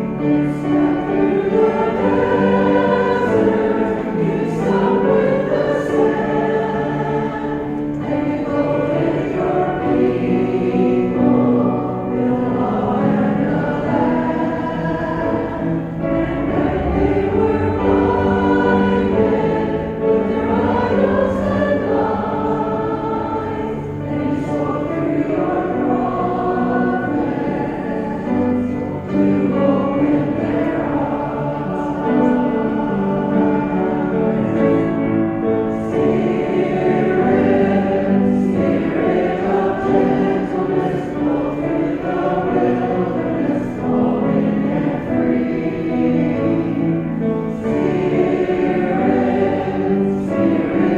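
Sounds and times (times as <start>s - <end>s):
choir singing a hymn: 0.0s - 50.9s.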